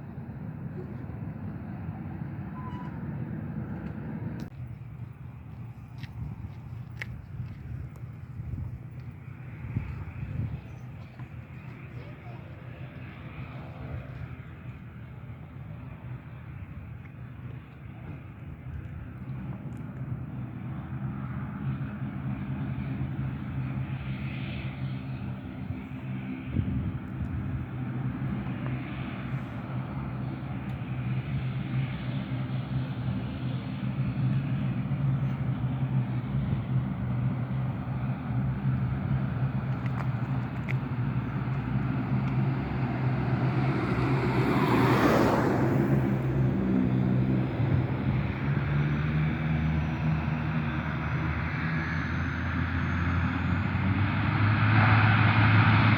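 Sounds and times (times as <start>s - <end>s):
jet engines humming: 0.0s - 55.9s.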